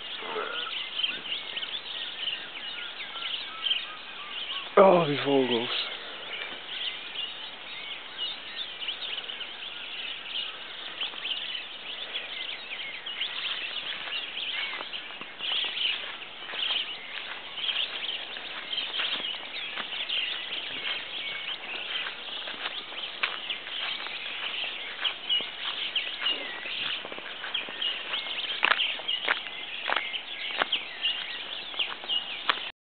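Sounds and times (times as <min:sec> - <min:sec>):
birds chirping: 0:00.0 - 0:32.7.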